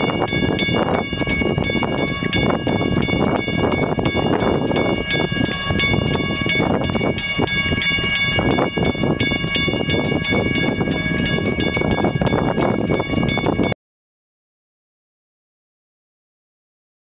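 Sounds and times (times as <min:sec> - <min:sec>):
diesel locomotive rumble: 0:00.0 - 0:13.8.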